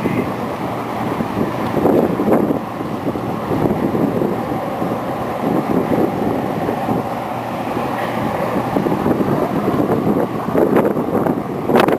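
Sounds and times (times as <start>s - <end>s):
wind blowing against microphone: 0.0s - 11.9s.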